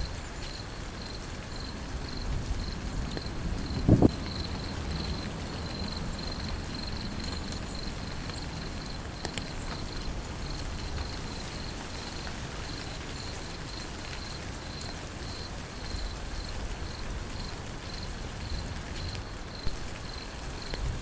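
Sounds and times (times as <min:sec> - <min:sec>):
insect chirping: 0:00.0 - 0:20.8
steady rain: 0:00.0 - 0:21.0.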